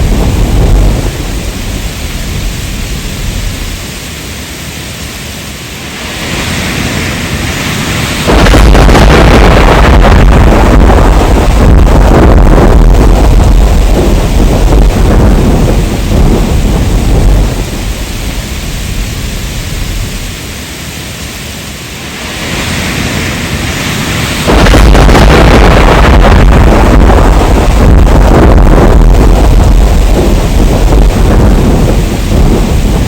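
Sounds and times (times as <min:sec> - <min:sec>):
rolling thunder: 0:00.0 - 0:04.2, 0:05.8 - 0:20.7, 0:22.0 - 0:33.0
heavy rain: 0:00.0 - 0:33.0.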